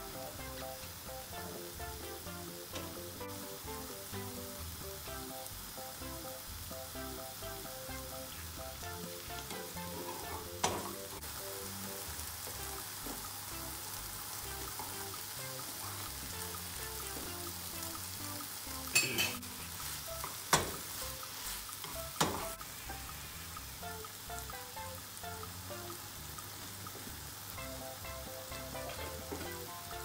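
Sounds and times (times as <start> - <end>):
food sizzling in frying pans: 0.0 - 30.0.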